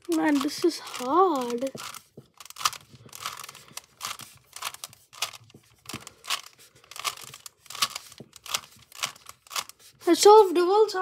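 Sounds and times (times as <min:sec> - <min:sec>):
puzzle cube clicking and scraping: 0:00.0 - 0:10.4.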